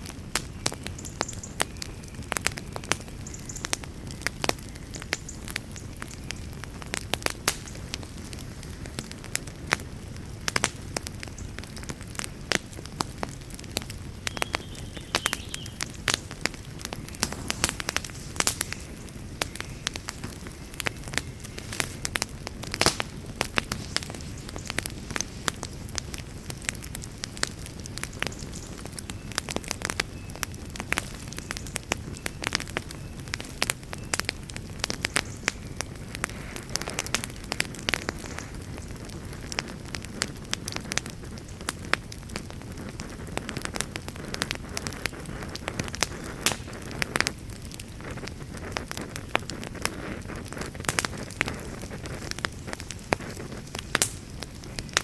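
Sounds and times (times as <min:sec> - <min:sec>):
campfire crackling: 0:00.0 - 0:55.0
low rushing of fire: 0:00.0 - 0:55.0
sharp pops and snaps of fire: 0:00.0 - 0:55.0.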